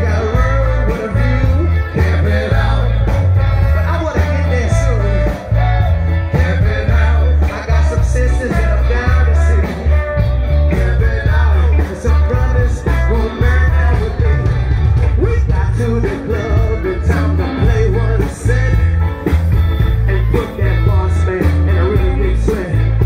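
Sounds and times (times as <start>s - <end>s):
pulsing bass line: 0.0s - 23.0s
song with singing: 0.0s - 23.0s.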